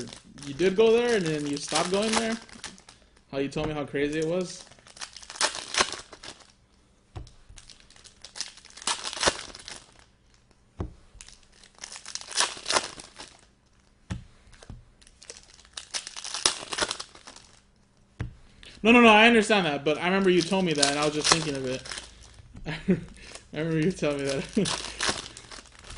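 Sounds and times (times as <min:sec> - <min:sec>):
card pack wrappers crinkling: 0:00.0 - 0:06.6, 0:07.5 - 0:10.6, 0:11.2 - 0:17.8, 0:18.6 - 0:25.9.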